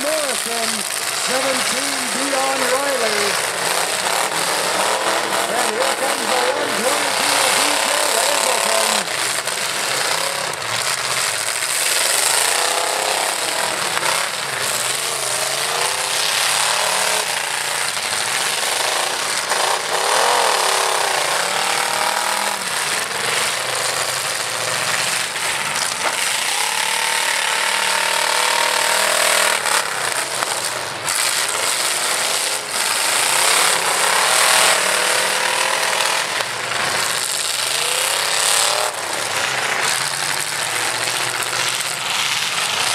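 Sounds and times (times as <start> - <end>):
truck engines revving hard: 0.0 - 42.9.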